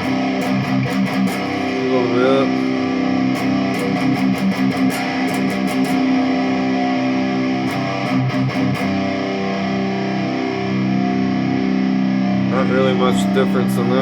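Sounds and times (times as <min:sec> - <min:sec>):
electric guitar notes picked: 0:00.0 - 0:14.0.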